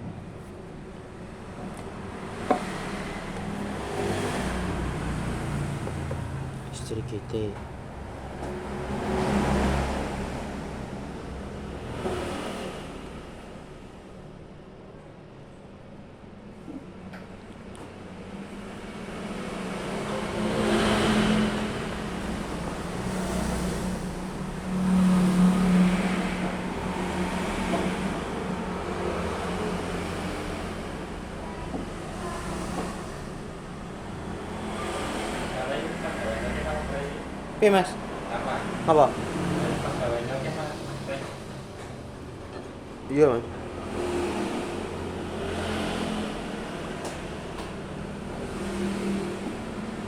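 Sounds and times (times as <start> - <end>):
road traffic rumble: 0.0 - 50.0.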